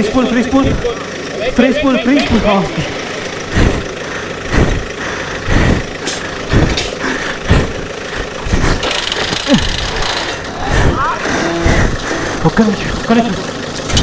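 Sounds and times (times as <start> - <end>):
engine running with surges: 0.0 - 14.0.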